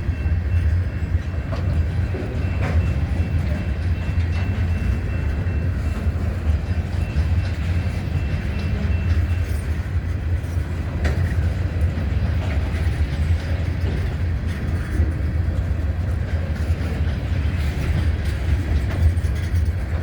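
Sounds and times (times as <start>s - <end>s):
freight train cars rumbling: 0.0s - 20.0s.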